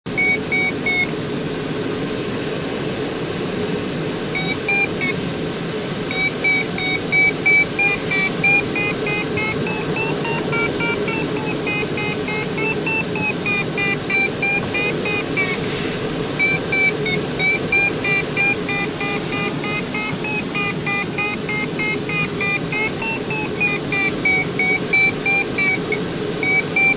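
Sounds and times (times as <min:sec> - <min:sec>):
variometer beeping: 0:00.1 - 0:01.1, 0:04.4 - 0:05.2, 0:06.0 - 0:26.9
cockpit airflow rush: 0:03.6 - 0:26.9.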